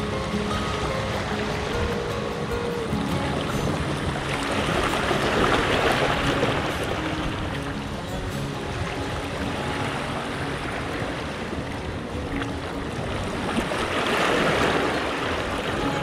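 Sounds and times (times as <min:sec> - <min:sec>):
waves washing against rocks: 0:00.0 - 0:16.0
wind on microphone: 0:00.0 - 0:16.0.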